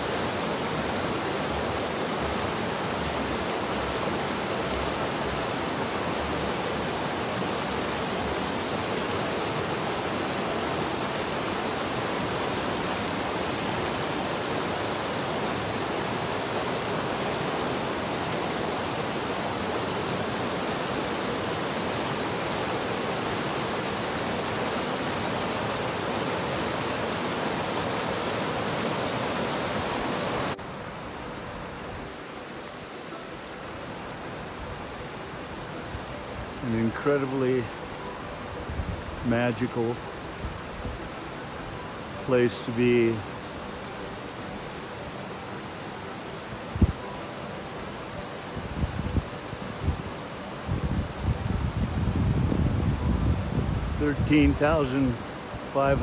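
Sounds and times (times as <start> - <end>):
stream rushing over boulders: 0.0 - 56.0.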